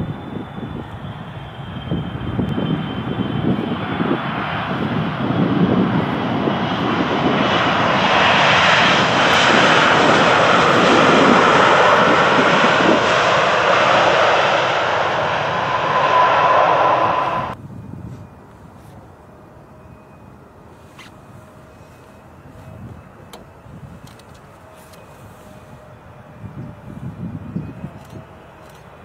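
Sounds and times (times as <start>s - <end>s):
jet engines roaring: 0.0s - 17.6s, 19.1s - 29.0s
steady engine whine: 0.0s - 29.0s.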